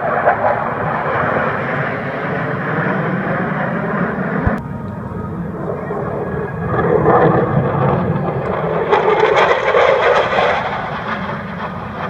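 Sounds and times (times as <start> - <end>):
aircraft flying past: 0.0 - 12.0.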